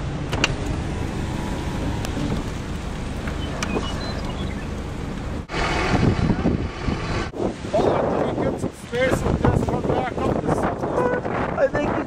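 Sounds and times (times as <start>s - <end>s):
wind and rain on a vehicle: 0.0s - 12.0s
gusting wind on microphone: 0.4s - 12.0s.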